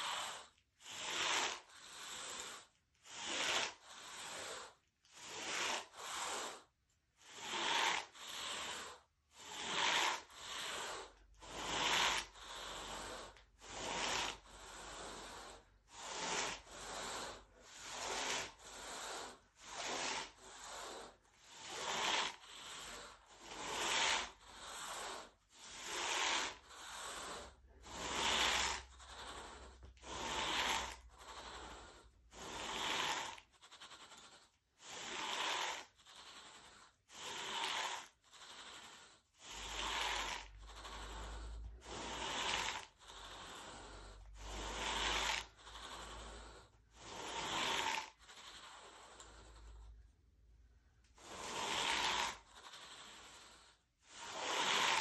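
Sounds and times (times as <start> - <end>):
carpet rake scraping carpet: 0.0 - 6.6, 7.3 - 38.8, 39.4 - 48.6, 51.2 - 55.0.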